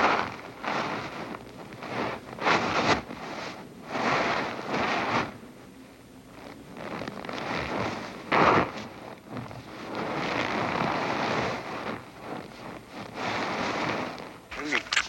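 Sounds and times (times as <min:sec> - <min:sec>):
scraping and rustling on snow: 0:00.0 - 0:05.4, 0:06.3 - 0:15.0.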